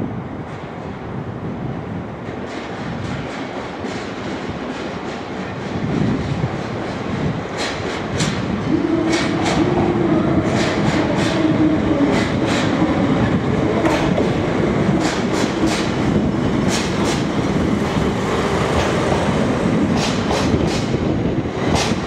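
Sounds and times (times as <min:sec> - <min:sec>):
train wheels clacking over rail joints: 0:02.3 - 0:22.0.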